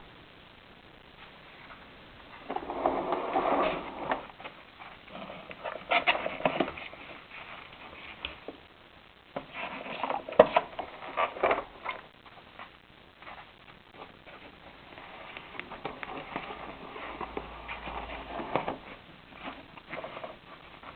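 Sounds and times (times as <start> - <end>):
rustling and scraping: 1.2 - 8.6, 9.4 - 20.9.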